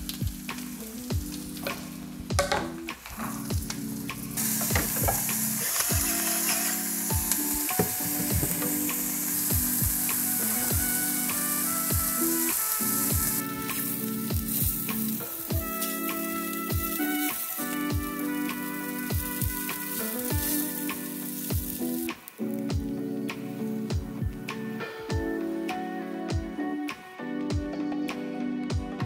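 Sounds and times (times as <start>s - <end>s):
mushrooms sizzling in butter: 0.0s - 25.7s.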